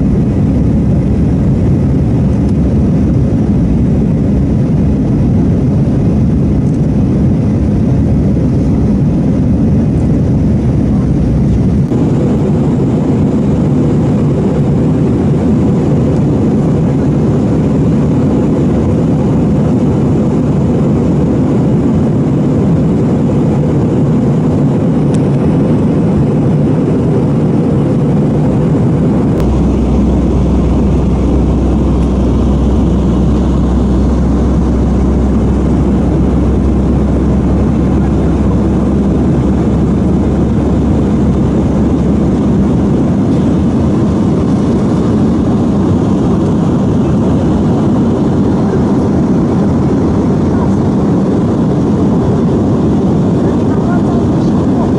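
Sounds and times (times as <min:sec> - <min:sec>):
deep low rumble: 0:00.0 - 0:54.9
engine and airflow rush in cabin: 0:00.0 - 0:54.9.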